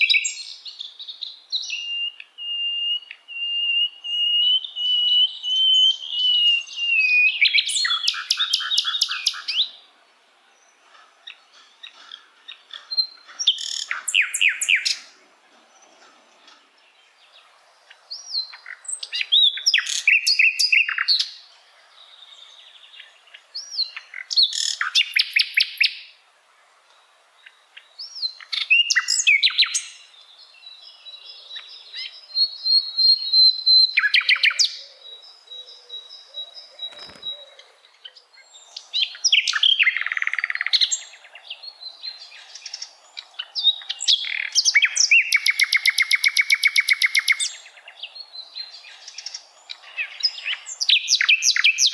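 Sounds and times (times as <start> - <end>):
nightingale singing: 0.0 - 51.9.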